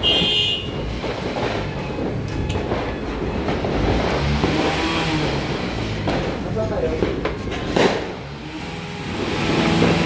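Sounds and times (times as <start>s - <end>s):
firecrackers crackling: 0.0s - 10.0s.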